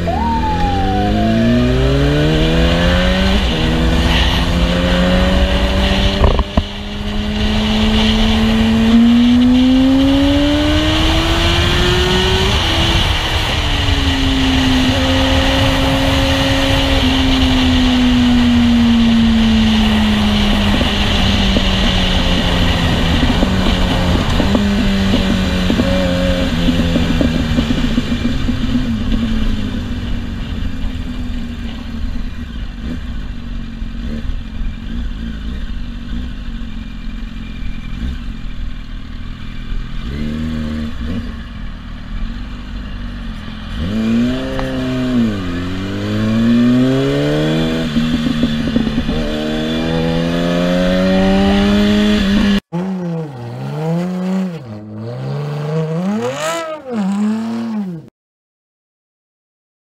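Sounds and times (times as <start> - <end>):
car engine revving: 0.0 - 31.9, 34.0 - 58.1
motorcycle engine revving: 0.0 - 58.1.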